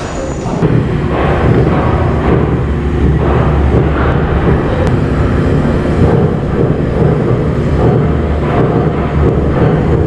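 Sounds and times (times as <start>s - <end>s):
low mechanical rumble: 0.0s - 10.0s.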